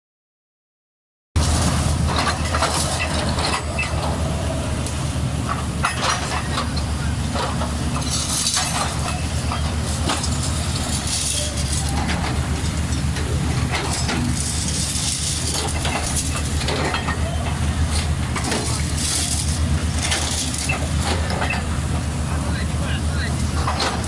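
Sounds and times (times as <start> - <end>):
diesel engines under load: 1.4 - 24.0.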